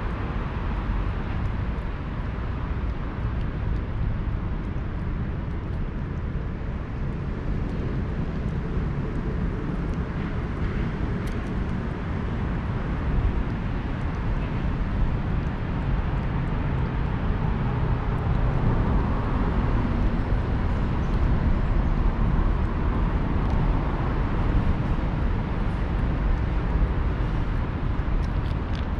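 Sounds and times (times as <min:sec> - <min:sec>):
low outdoor rumble: 0:00.0 - 0:28.9.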